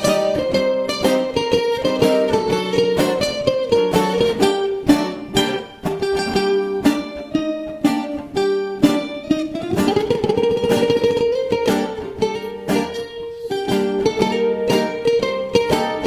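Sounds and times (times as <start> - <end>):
bouzoukis plucked with tremolo: 0.0 - 16.0.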